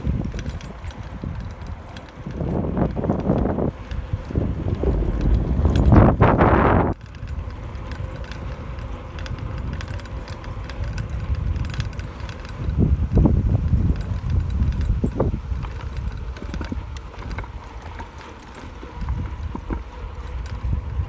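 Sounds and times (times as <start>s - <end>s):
bicycle ticking and rattling: 0.0s - 21.0s
wind buffeting microphone: 0.0s - 21.0s.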